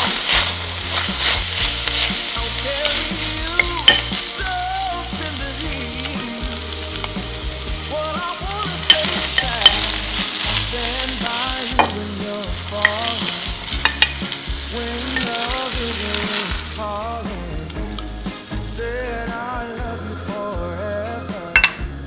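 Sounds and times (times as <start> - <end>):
meat and onion sizzling: 0.0 - 22.0.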